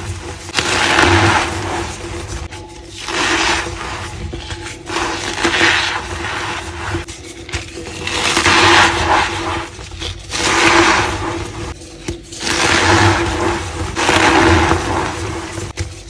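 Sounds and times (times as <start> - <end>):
chalk crunching: 0.0 - 16.0.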